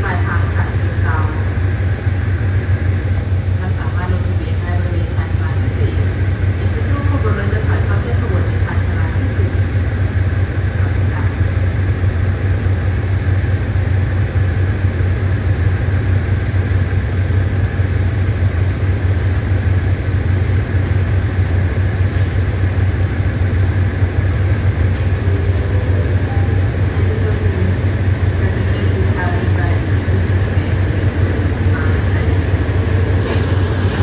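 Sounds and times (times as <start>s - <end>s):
train diesel engines droning: 0.0s - 34.0s.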